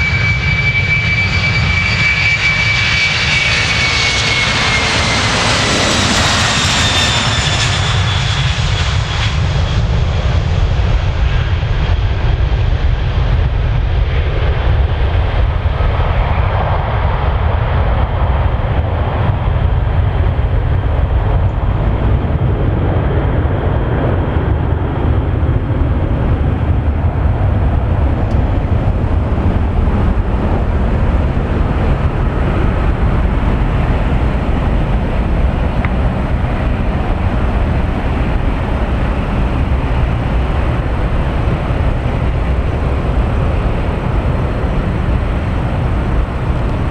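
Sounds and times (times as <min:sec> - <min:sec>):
jet engine low rumble: 0:00.0 - 0:46.9
jet engine whine: 0:00.0 - 0:46.9.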